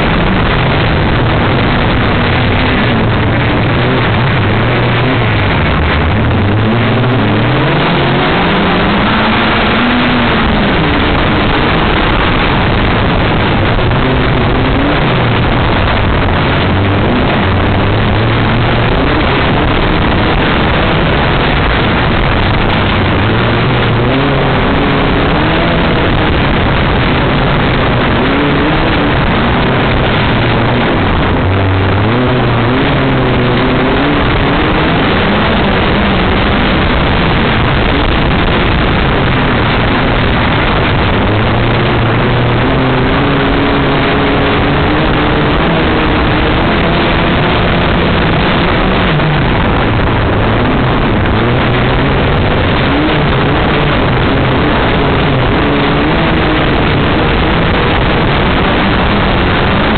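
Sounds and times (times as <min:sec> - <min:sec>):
race car engine revving: 0:00.0 - 0:59.9
wind rush and chassis noise: 0:00.0 - 0:59.9.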